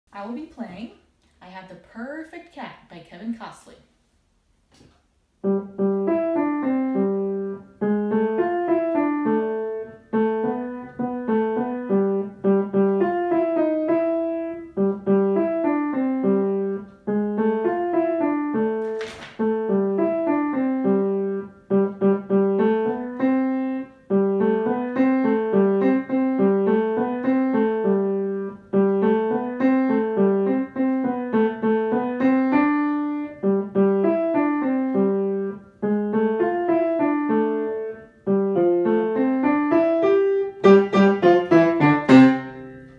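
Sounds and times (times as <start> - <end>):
upright piano solo piece: 5.4 - 42.9.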